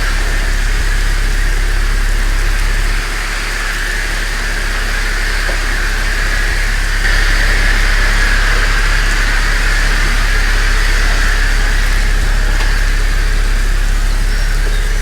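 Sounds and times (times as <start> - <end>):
car wash equipment running: 0.0 - 15.0.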